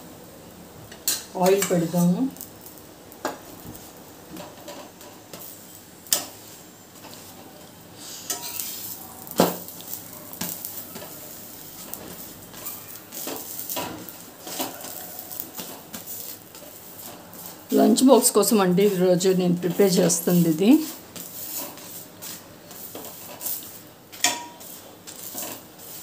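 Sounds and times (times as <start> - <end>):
flatbread sizzling in oil: 0.0 - 26.0
metal spatula scraping and clinking: 4.4 - 26.0.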